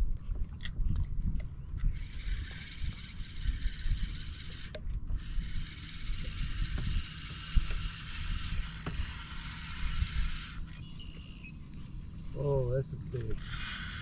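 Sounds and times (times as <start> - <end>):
fishing reel whirring: 1.6 - 14.0.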